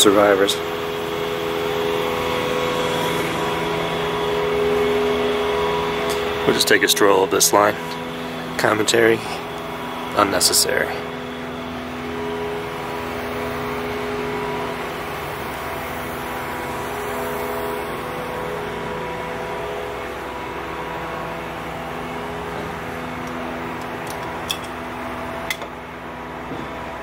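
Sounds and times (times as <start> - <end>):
engine idling hum: 0.0 - 27.0.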